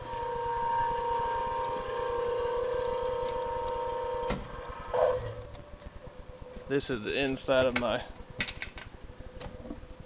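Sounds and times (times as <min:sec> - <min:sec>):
electric motor whine: 0:00.0 - 0:08.4.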